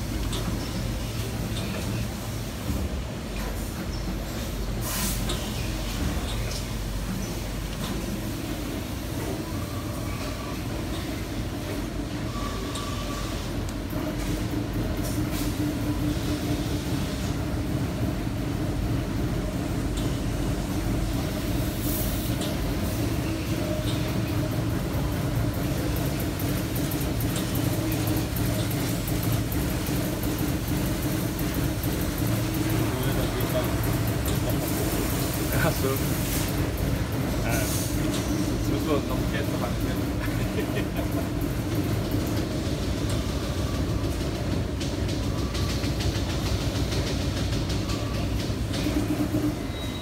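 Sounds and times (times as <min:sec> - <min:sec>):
machinery hum: 0:00.0 - 0:50.0
machinery rumbling: 0:00.0 - 0:50.0.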